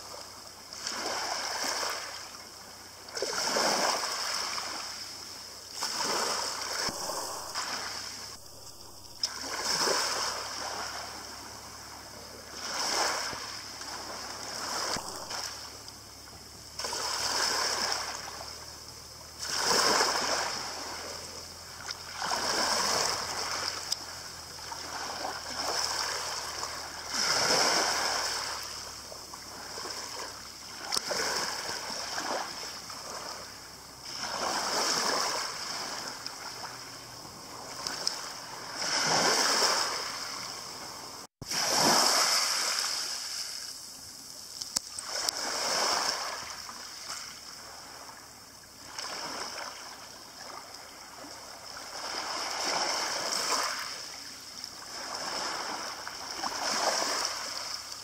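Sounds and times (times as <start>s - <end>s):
waves washing over pebbles: 0.0s - 58.0s.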